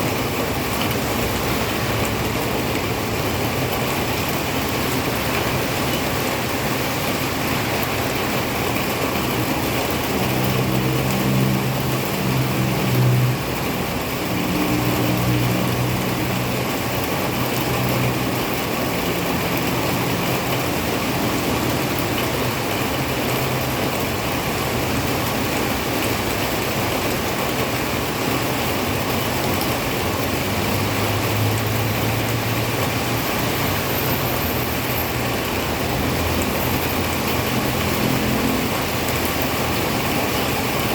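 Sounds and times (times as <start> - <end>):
heavy rain falling: 0.0 - 40.9
vehicle engine hum: 0.0 - 40.9.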